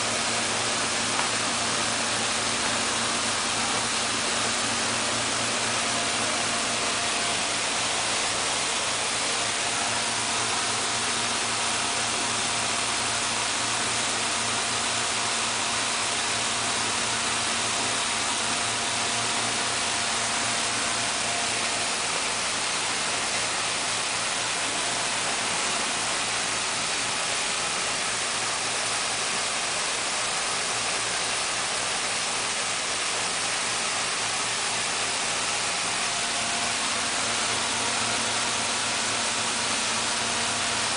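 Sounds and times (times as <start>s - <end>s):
milling machine whirring: 0.0s - 40.9s.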